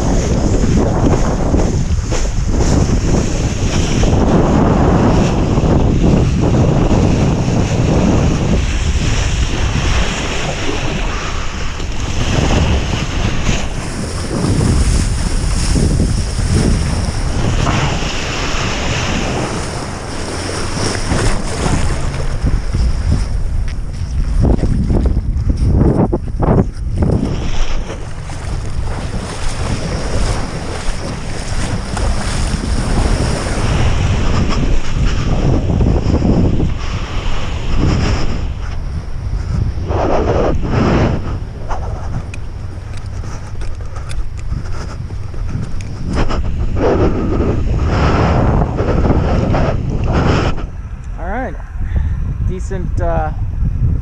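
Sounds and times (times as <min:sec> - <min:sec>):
board skimming water: 0:00.0 - 0:54.0
wind buffeting microphone: 0:00.0 - 0:54.0.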